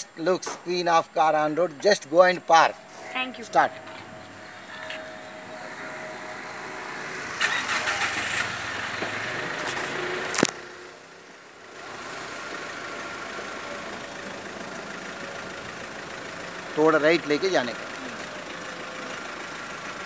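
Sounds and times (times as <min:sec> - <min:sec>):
car engine starting and idling: 0:00.0 - 0:20.0.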